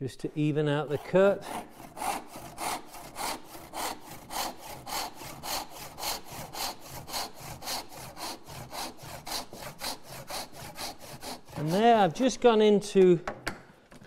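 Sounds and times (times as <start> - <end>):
hand saw cutting wood: 0.3 - 12.6.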